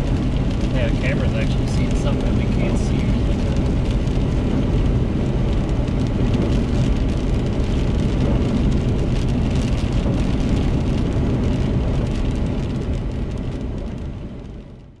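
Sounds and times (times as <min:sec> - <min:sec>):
rain ticking on windshield: 0:00.0 - 0:15.0
road and tyre noise inside car: 0:00.0 - 0:15.0.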